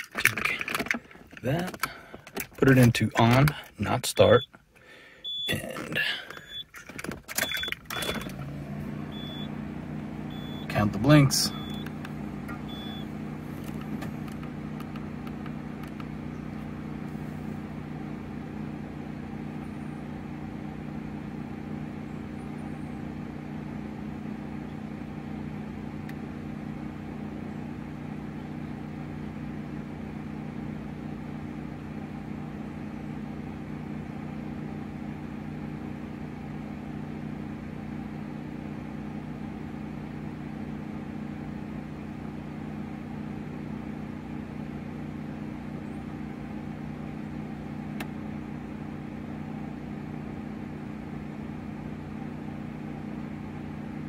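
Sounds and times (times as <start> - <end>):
engine idling hum: 0.0 - 54.0.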